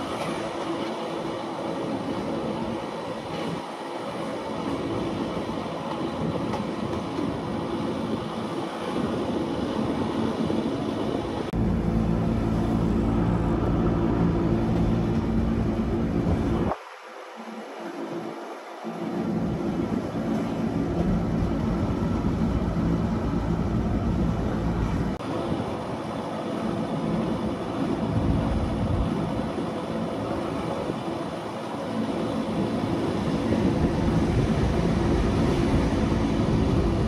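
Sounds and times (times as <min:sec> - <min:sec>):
train wheels rumbling: 0:00.0 - 0:16.7, 0:18.9 - 0:37.0.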